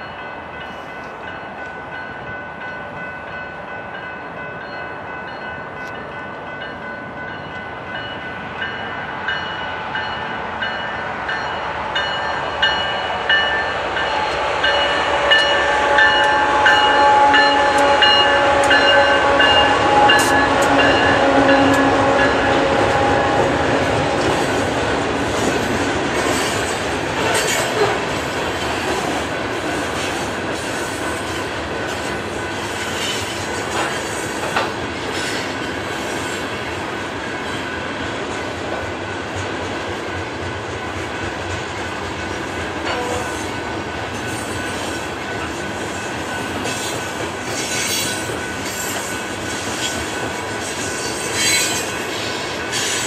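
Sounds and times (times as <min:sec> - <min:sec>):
freight train rumble: 0:00.0 - 0:53.0.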